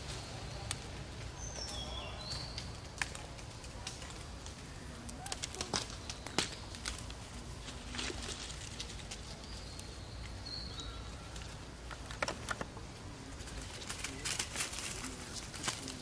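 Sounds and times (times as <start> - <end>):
sharp clicks and rustles: 0.0 - 10.4, 11.2 - 16.0.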